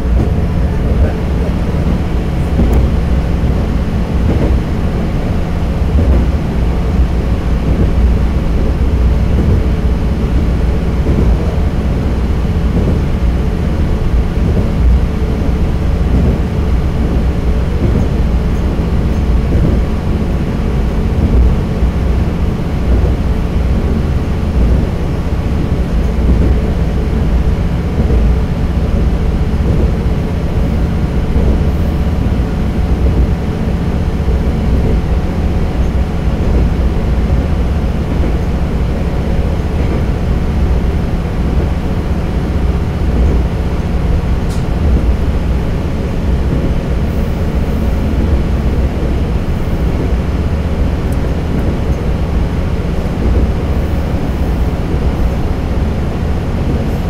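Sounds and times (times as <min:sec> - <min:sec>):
constant hum: 0:00.0 - 0:57.0
railcar rumble on rails: 0:00.0 - 0:57.0.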